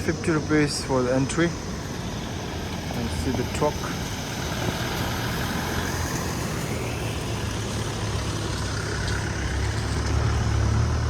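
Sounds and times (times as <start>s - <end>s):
truck engine humming: 0.0s - 11.0s.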